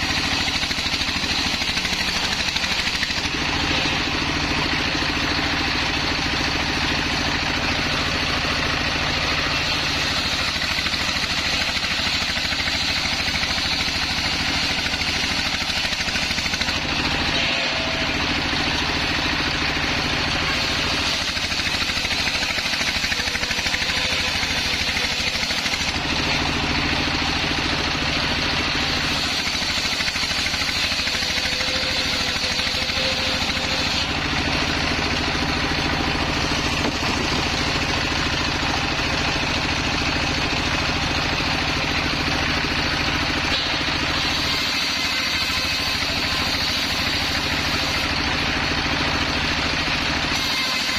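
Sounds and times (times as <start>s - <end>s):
circular saw hissing through wood: 0.0s - 38.6s, 42.7s - 48.5s, 50.2s - 50.9s
diesel engine running: 0.0s - 50.9s.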